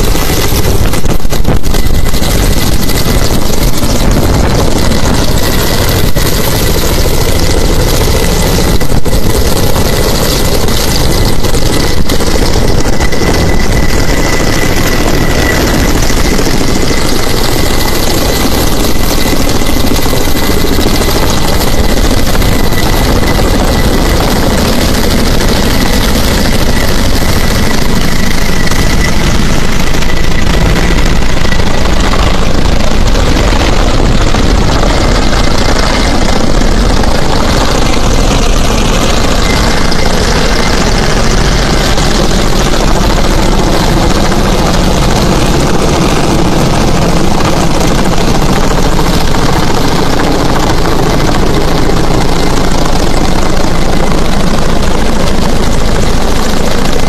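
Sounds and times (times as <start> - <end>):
aircraft engine noise: 0.0 - 57.0
high steady whine: 0.0 - 57.0.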